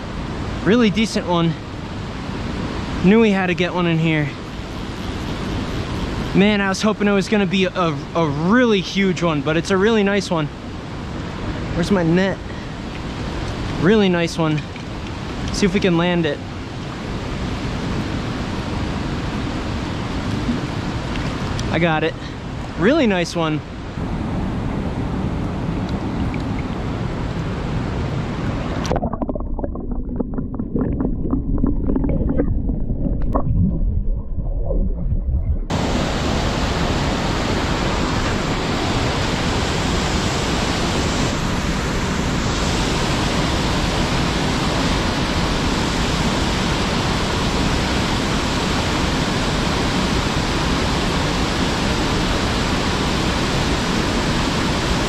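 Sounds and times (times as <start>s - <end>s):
mountain stream rushing: 0.0s - 29.1s, 35.7s - 55.0s.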